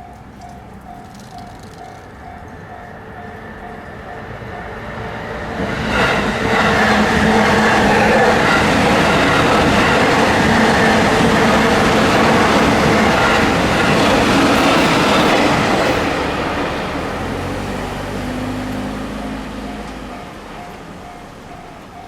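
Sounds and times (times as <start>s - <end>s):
train wheel and rail noise: 0.0s - 22.0s.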